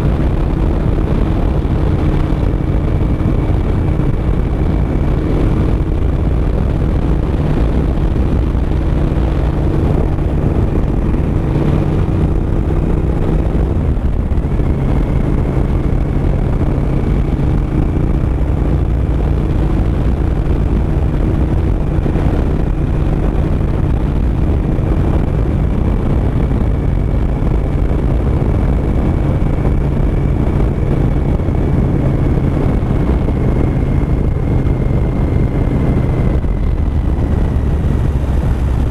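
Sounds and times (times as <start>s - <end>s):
motorcycle engine pulling steadily: 0.0s - 38.9s
wind rushing over microphone: 0.0s - 38.9s.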